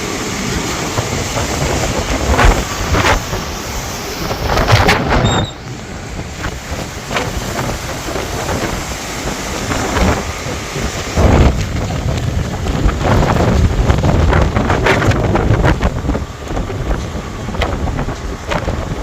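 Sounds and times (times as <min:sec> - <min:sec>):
continuous rushing wind: 0:00.0 - 0:19.0
wind buffeting microphone: 0:00.0 - 0:19.0.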